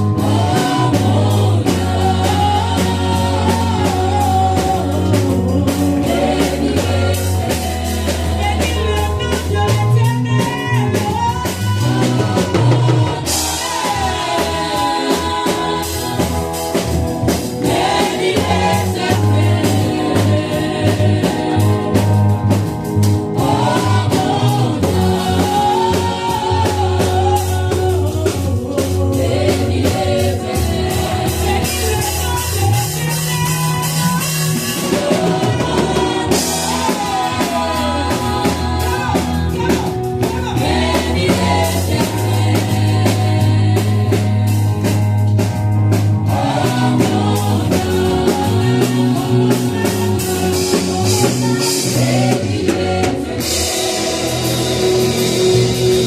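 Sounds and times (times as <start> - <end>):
voices singing: 0.0 - 45.0, 46.2 - 56.0
bass line: 0.0 - 56.0
drum kit: 0.0 - 56.0.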